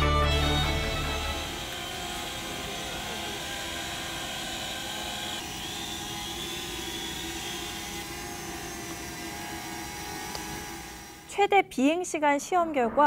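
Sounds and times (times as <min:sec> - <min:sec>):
drone propellers whining: 0:00.2 - 0:11.3.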